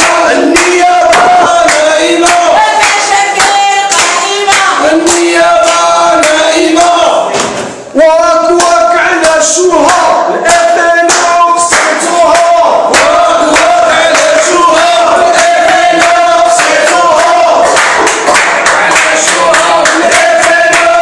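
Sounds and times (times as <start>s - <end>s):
crowd chanting: 0.0s - 21.0s
rhythmic hand clapping: 0.0s - 21.0s.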